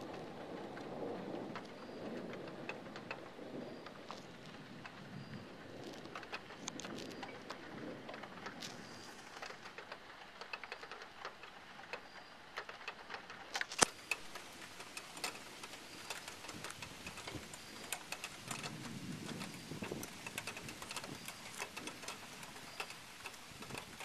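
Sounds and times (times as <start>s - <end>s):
raindrops tapping: 0.0s - 24.0s.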